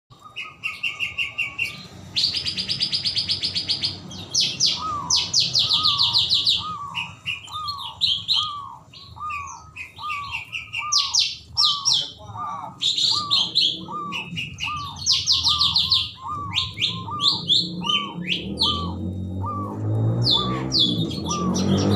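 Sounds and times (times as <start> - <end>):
birds trilling: 0.1 - 21.9
dove cooing: 0.1 - 21.9.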